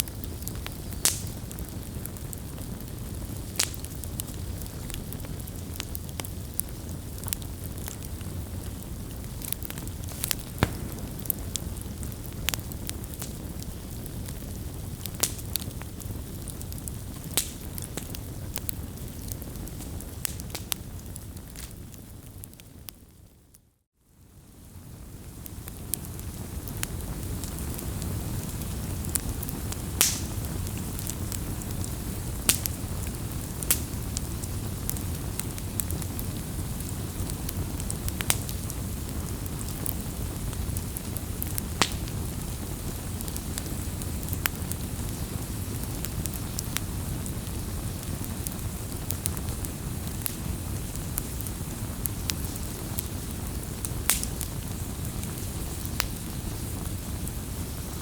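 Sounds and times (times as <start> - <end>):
campfire burning: 0.0 - 58.0.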